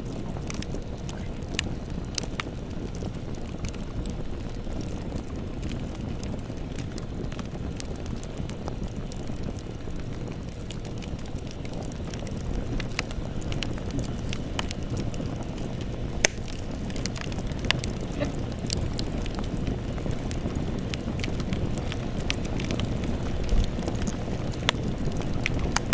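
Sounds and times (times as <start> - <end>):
burning wood crackling and popping: 0.0 - 25.9
campfire flame rumble: 0.0 - 25.9.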